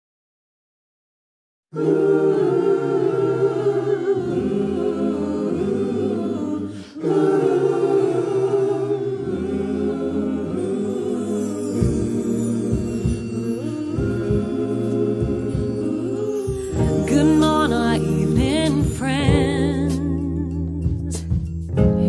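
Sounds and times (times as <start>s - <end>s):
choir singing a cappella: 1.7s - 21.1s.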